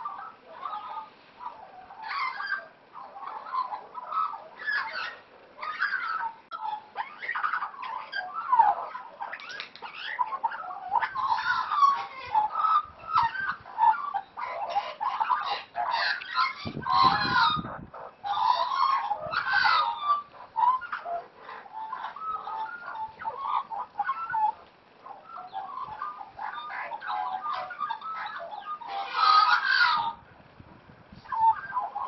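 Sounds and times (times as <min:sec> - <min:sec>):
magpies warbling and chattering: 0:00.0 - 0:30.3, 0:31.1 - 0:32.0.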